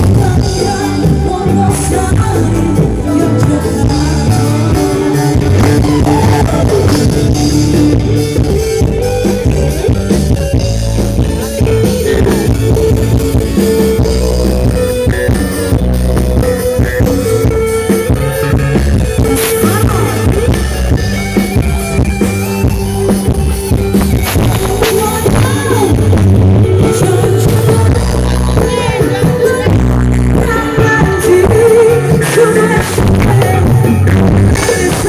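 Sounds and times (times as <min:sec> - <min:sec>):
distorted band music: 0:00.0 - 0:35.0.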